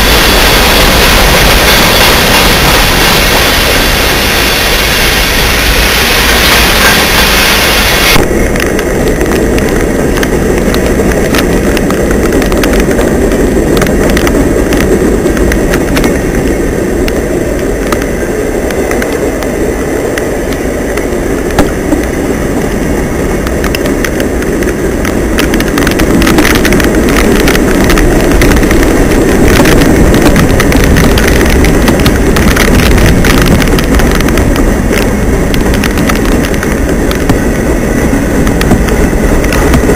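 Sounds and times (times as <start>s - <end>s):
train wheels rumbling on rails: 0.0s - 39.9s
wheels clicking over rail joints: 0.0s - 39.9s.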